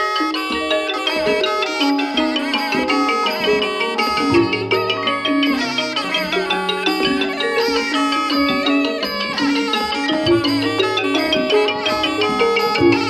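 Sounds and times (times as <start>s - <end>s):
reed and percussion ensemble music: 0.0s - 13.0s
light drumming: 0.4s - 13.0s.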